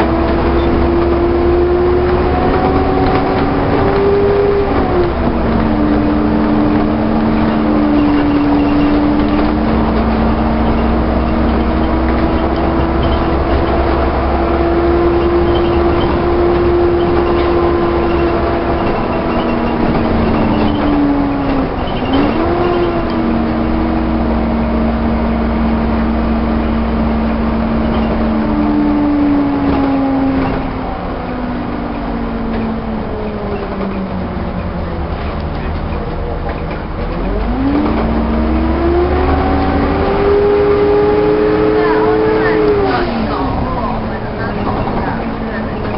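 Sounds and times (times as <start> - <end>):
bus engine drone: 0.0 - 45.9.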